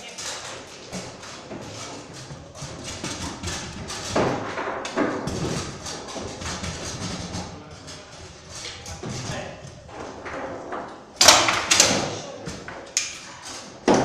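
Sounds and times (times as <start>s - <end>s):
table football knocks and clacks: 0.2s - 13.2s.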